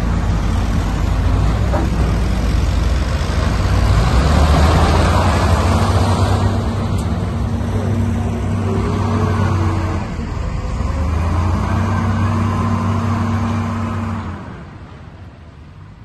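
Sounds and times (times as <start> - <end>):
wheel loader diesel engines: 0.0 - 16.0.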